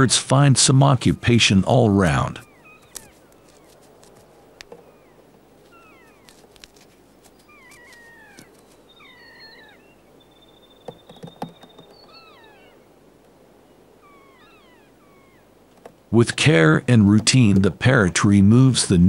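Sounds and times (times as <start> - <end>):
keas calling: 0.0 - 19.0.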